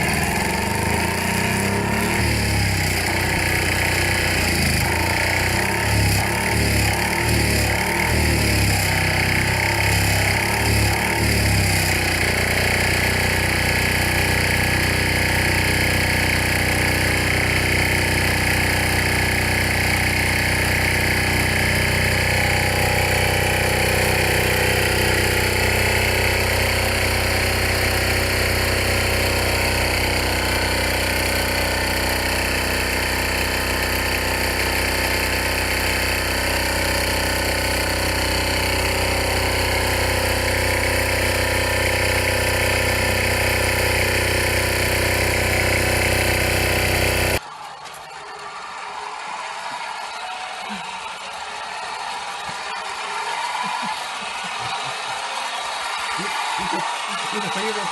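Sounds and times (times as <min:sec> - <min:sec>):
diesel engine running: 0:00.0 - 0:47.4.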